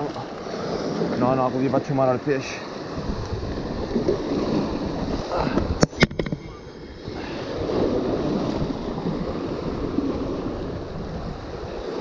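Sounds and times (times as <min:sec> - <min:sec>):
waves washing over rocks: 0:00.0 - 0:12.0.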